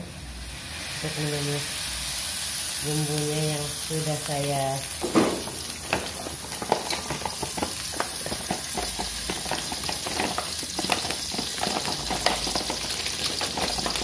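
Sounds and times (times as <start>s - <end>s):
hot oil sizzling and popping: 0.0s - 14.0s.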